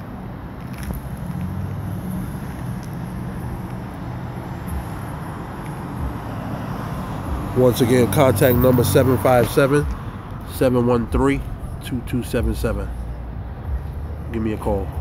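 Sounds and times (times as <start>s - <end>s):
car engine humming: 0.0s - 15.0s
outdoor background noise: 0.0s - 15.0s.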